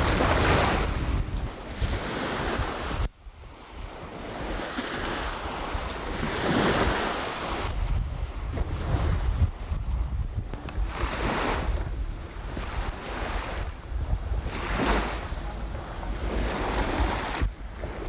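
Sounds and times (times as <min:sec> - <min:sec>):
water splashing around boat: 0:00.0 - 0:18.0
wind buffeting microphone: 0:00.0 - 0:18.0.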